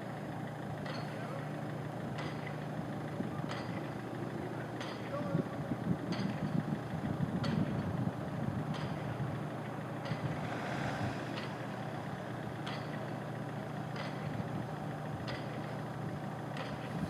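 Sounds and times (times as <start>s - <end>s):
low machinery drone: 0.0s - 17.0s.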